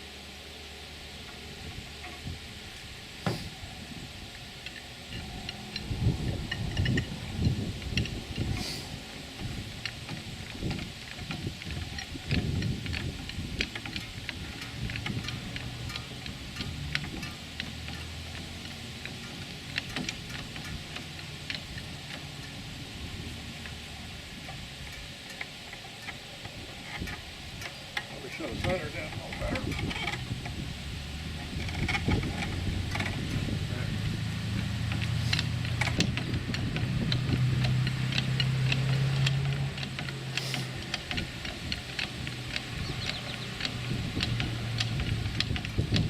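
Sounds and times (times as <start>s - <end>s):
low steady hum: 0.0s - 46.0s
light clicks and ticks: 4.2s - 46.0s.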